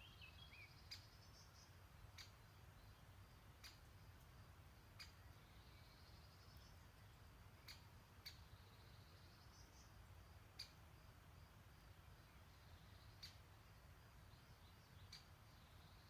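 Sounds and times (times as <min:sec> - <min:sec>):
bird chirping: 0:00.0 - 0:04.2, 0:04.8 - 0:10.8, 0:11.9 - 0:16.0
quiet bird twittering: 0:00.0 - 0:16.0.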